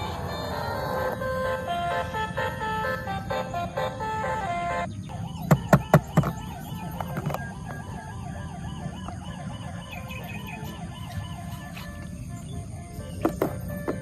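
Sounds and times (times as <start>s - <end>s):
electronic siren warbling: 0.0s - 5.3s, 5.9s - 14.0s
music: 0.0s - 14.0s.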